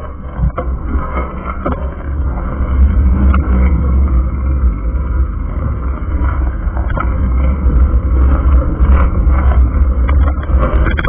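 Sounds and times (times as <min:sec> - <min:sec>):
bicycle tyres on rough pavement: 0:00.0 - 0:11.0
wind buffeting microphone: 0:00.0 - 0:11.0.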